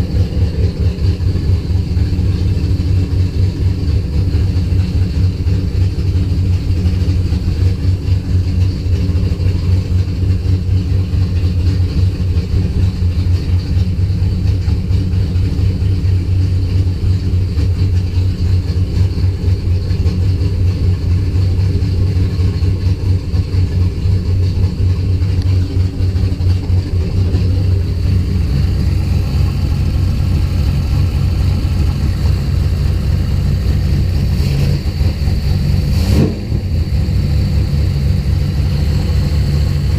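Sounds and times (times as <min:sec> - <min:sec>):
car engine rough idle: 0:00.0 - 0:39.9.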